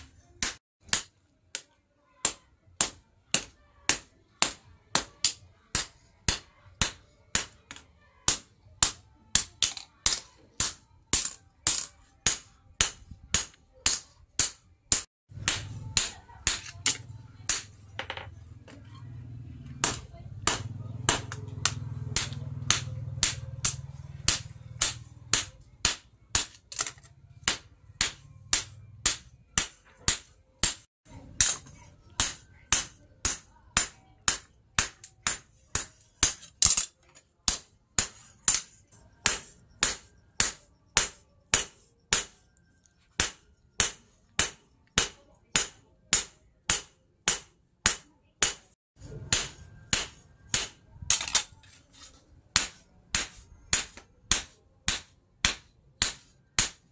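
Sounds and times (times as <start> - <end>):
hammer striking metal on anvil: 0.4 - 18.3, 19.8 - 36.9, 37.5 - 42.5, 43.2 - 51.5, 52.5 - 56.9.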